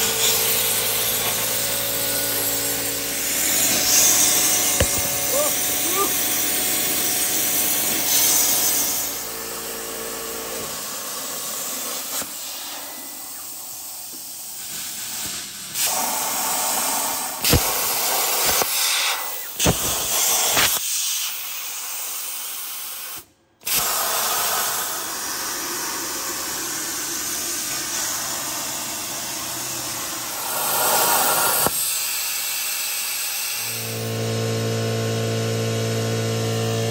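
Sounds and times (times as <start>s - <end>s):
plasma cutter arc hissing: 0.0s - 9.4s, 10.0s - 34.0s.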